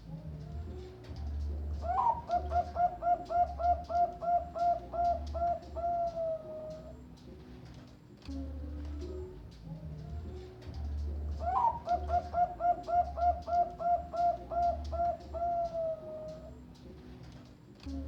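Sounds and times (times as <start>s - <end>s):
dove cooing: 0.0s - 7.2s, 8.3s - 17.3s.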